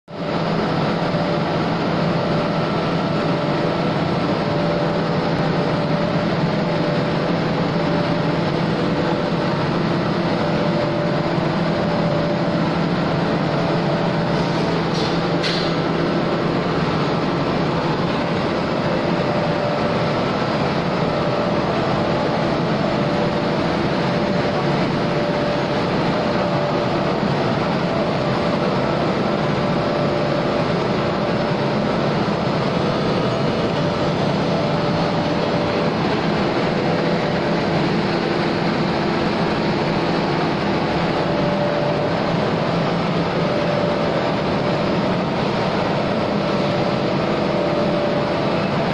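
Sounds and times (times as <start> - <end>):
printing machine drone: 0.1 - 48.9.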